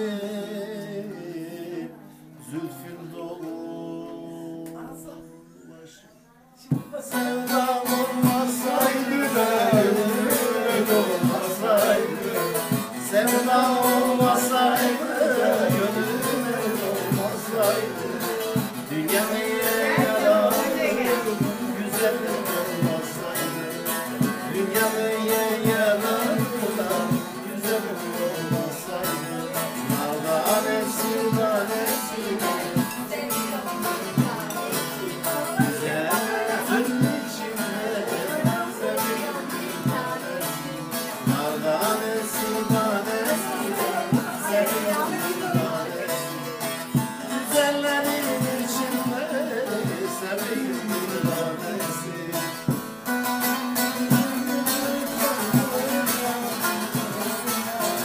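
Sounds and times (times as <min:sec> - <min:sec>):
long-necked lute folk melody: 0:00.0 - 0:58.0.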